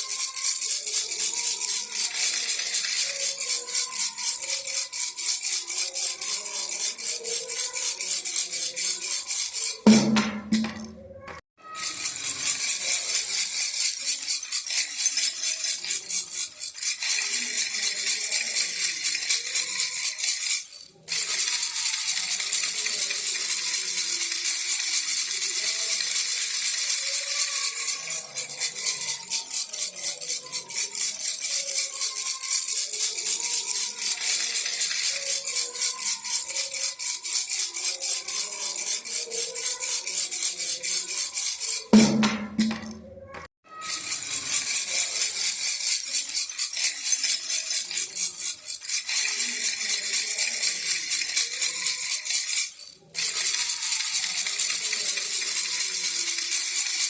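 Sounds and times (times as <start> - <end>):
baby rattle shaking: 0.0 - 57.0.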